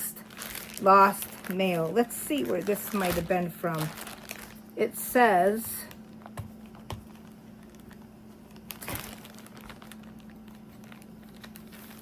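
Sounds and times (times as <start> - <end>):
package crinkling: 0.0 - 12.0
steady low hum: 0.0 - 12.0.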